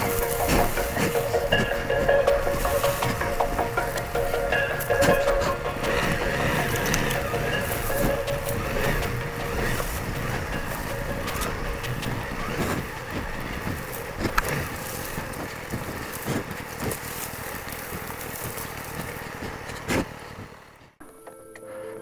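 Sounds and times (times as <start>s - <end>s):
dry grass brushing: 0.0s - 20.8s
motorcycle engine running: 0.0s - 21.0s.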